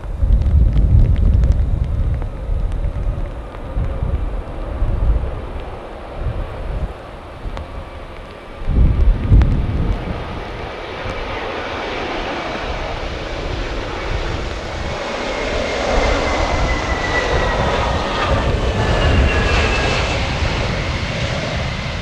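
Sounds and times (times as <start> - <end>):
jet airliner landing: 0.0 - 22.0.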